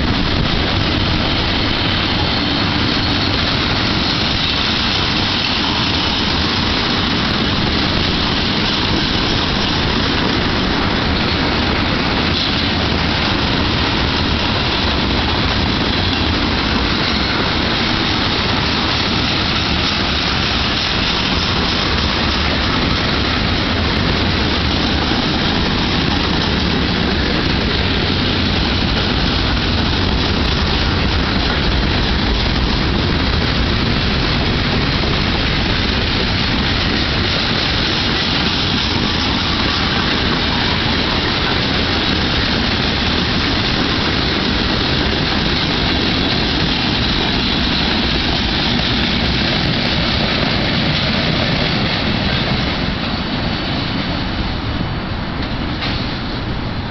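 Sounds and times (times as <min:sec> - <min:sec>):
freight train wheels rumbling on rail: 0:00.0 - 0:56.9.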